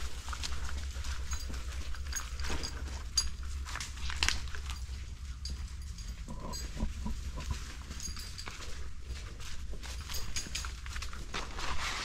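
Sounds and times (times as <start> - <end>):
footsteps crunching through dry leaves: 0.0 - 4.8, 7.2 - 12.0
steady low rumble: 0.0 - 11.0.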